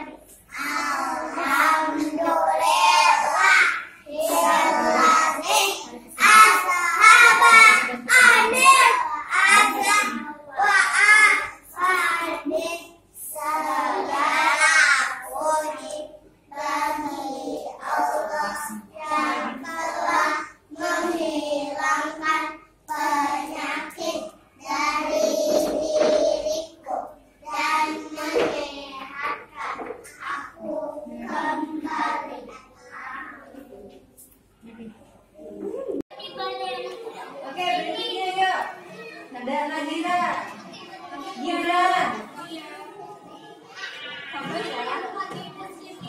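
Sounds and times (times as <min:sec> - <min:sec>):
young children singing: 0:00.0 - 0:34.2, 0:40.4 - 0:46.0.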